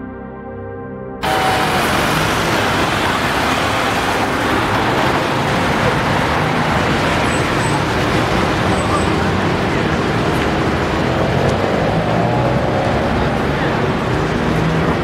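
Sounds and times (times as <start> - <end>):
road traffic driving past: 1.2 - 15.0.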